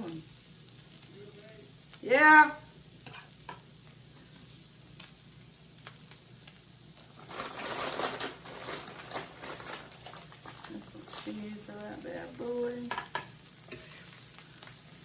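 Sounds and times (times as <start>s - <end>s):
tortillas sizzling in a pan: 0.0s - 15.0s.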